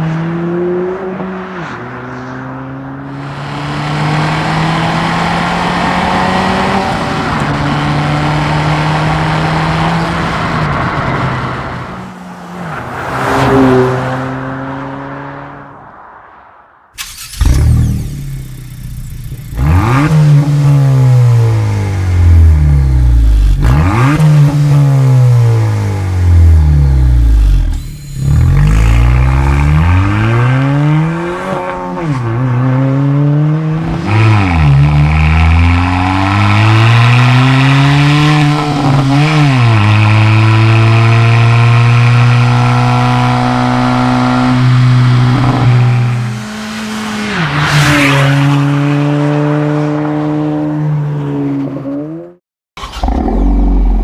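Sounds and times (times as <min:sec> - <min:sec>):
car engine revving: 0:00.0 - 0:16.2, 0:17.0 - 0:54.0.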